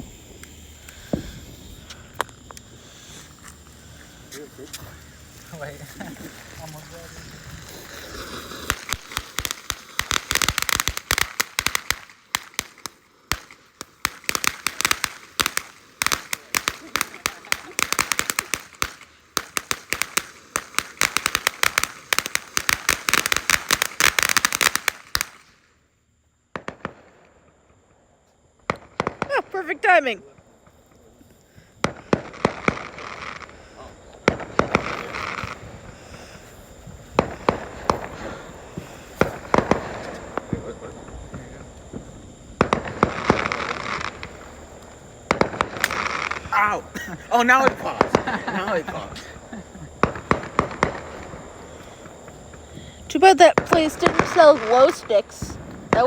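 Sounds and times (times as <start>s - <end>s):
firecrackers popping: 0.0s - 25.8s, 26.5s - 27.8s, 28.6s - 56.0s.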